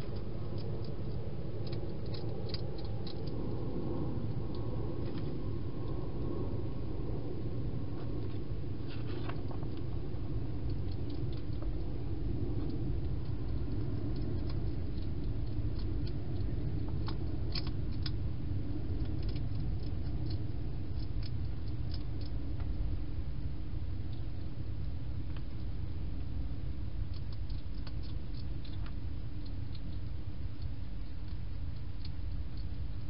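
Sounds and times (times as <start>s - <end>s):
hedgehog eating clicks and crunches: 0.0s - 33.0s
low background rumble: 0.0s - 33.0s.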